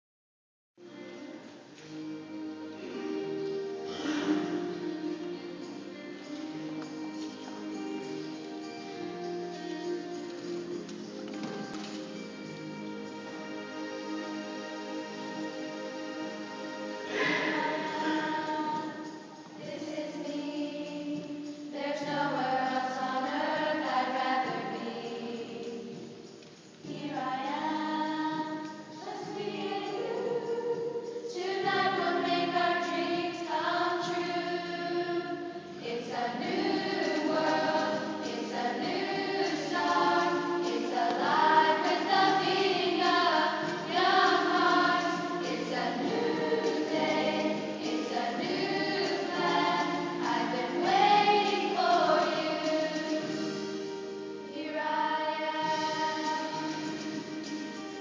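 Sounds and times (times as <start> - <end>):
choir singing long notes: 1.1 - 26.2, 26.8 - 58.0.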